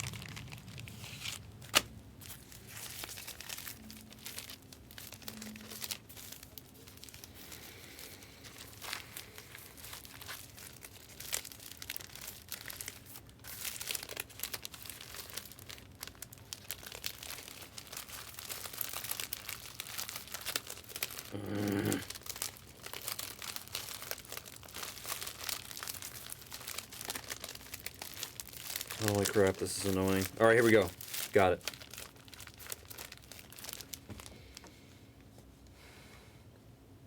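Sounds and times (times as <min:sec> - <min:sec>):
card pack wrappers crinkling: 0:00.0 - 0:34.7.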